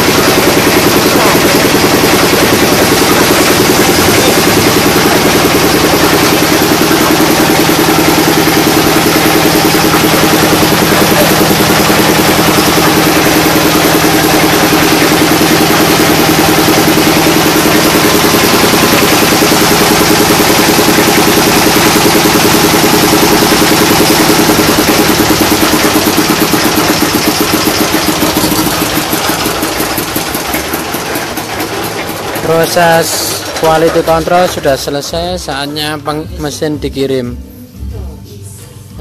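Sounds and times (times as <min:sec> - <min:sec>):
stationary engine running: 0:00.0 - 0:38.0.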